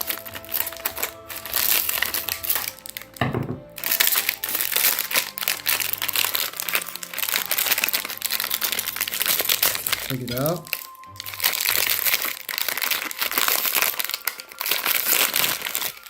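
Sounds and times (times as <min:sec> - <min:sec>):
plastic wrapper crinkling: 0:00.0 - 0:16.0.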